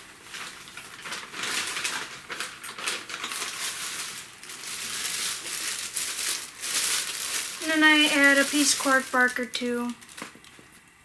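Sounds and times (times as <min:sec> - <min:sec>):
material rustling and crinkling: 0:00.0 - 0:10.8.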